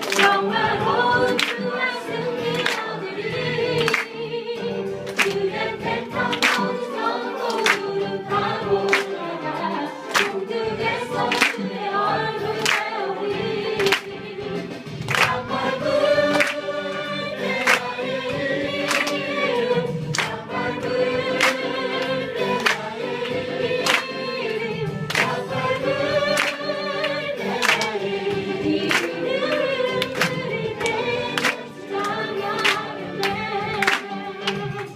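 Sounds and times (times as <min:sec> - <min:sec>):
group singing gospel song: 0:00.0 - 0:34.9.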